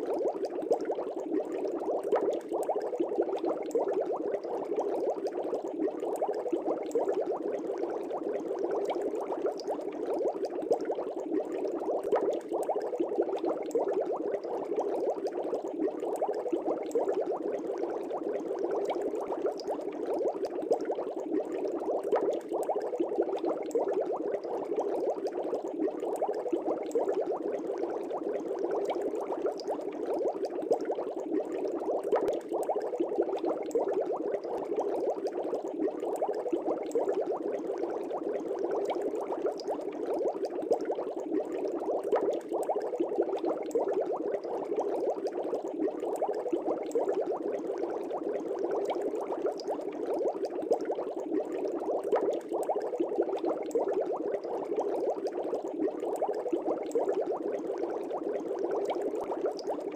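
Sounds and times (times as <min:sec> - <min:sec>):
air bubbles in fish tank: 0:00.0 - 0:59.9.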